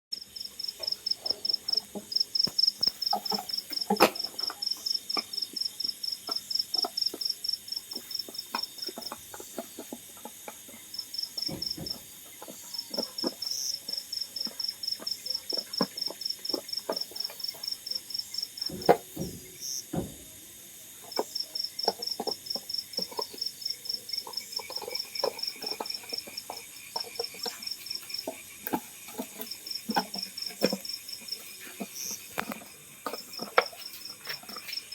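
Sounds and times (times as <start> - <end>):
insect chirping: 0.2 - 34.9.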